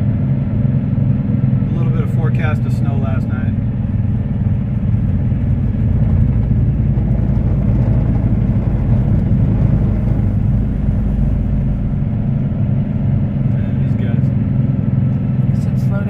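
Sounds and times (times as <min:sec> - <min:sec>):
diesel truck engine humming: 0:00.0 - 0:16.0.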